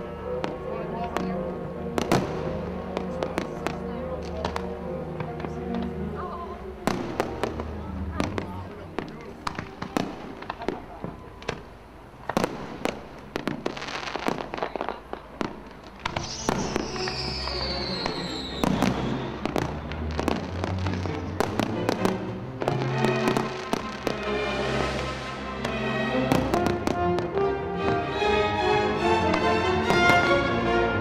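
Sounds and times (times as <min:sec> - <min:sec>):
music: 0:00.0 - 0:11.8, 0:16.0 - 0:31.0
fireworks bursting and crackling: 0:00.0 - 0:28.2.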